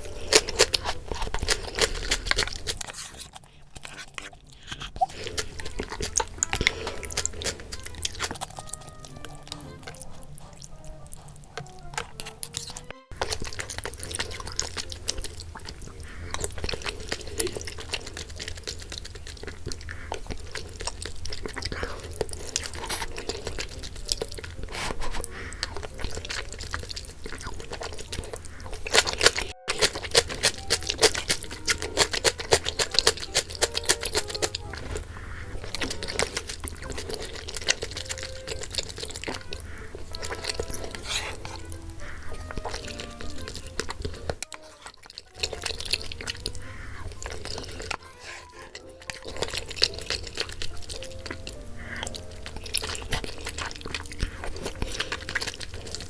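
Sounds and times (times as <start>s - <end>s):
chewing food: 0.0s - 56.0s.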